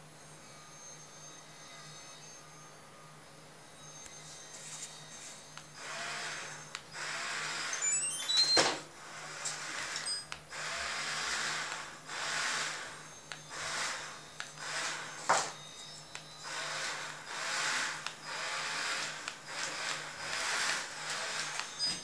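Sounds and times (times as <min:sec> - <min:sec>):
robot vacuum rising beeps: 0:03.7 - 0:08.8, 0:09.4 - 0:22.0.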